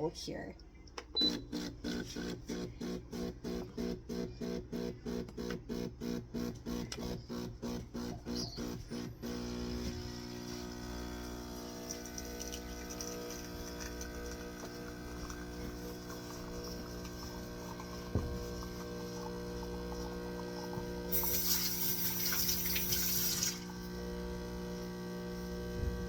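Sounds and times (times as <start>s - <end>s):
espresso machine pump humming: 1.2s - 26.0s.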